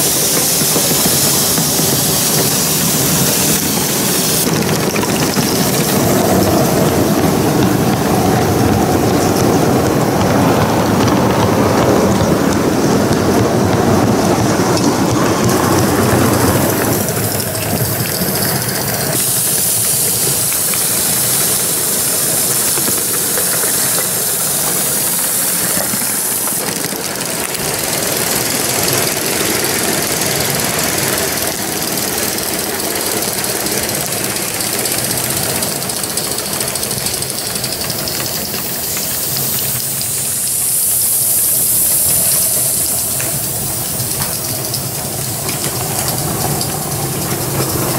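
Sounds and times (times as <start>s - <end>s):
locomotives running: 0.0s - 47.9s
steam hissing: 0.0s - 47.9s
wagon wheels on track: 0.0s - 47.9s.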